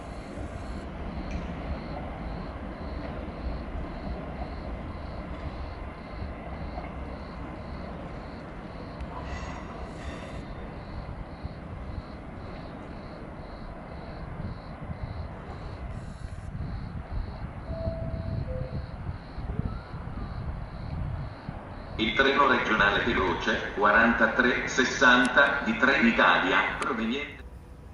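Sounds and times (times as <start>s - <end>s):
train rumbling: 0.0s - 27.9s.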